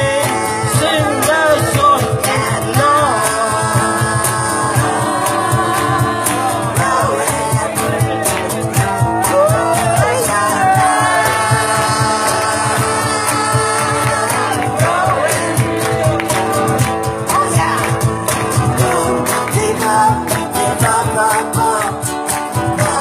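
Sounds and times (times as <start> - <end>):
song with gliding sung notes: 0.0 - 23.0
steady beat: 0.7 - 21.8.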